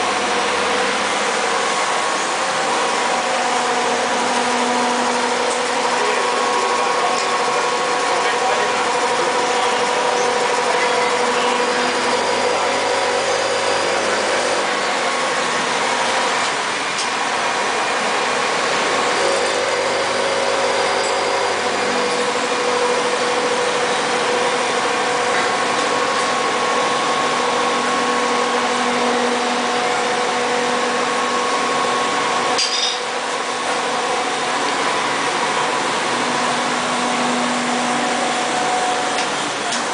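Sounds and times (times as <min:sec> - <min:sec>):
grinding machine motor whining: 0:00.0 - 0:39.9.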